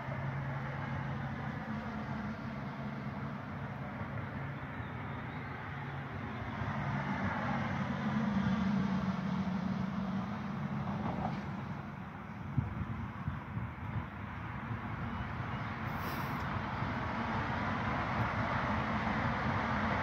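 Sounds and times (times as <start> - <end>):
traffic noise: 0.0 - 20.0
vehicle engine humming: 0.0 - 20.0.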